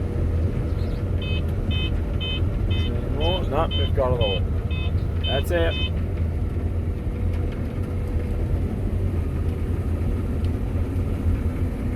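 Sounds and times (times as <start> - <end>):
farm machinery engine droning: 0.0 - 11.9.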